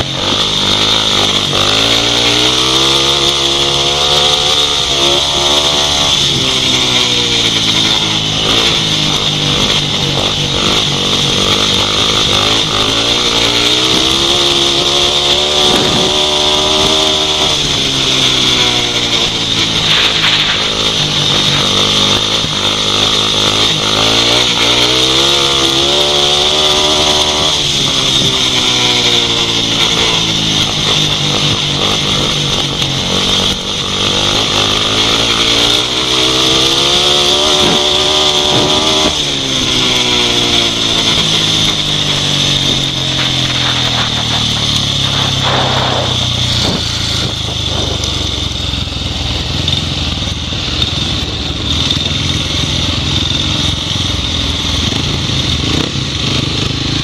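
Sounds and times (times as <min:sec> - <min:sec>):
racing motorcycle engine: 0:00.0 - 0:57.0.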